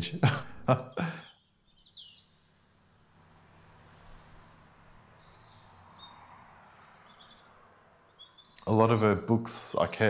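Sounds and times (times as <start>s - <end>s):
faint high bird chirps: 1.2s - 10.0s.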